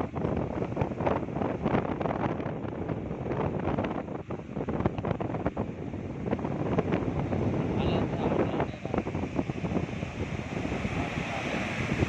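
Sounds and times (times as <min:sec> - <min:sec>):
sea surf on beach: 0:00.0 - 0:12.0
wind buffeting microphone: 0:00.0 - 0:12.0.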